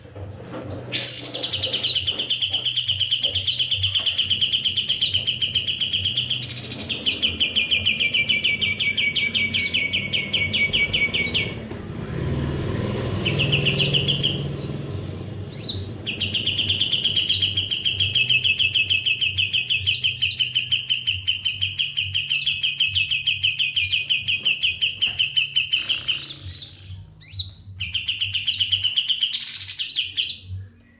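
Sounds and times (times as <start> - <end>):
songbird rapid trills: 0.0 - 30.2.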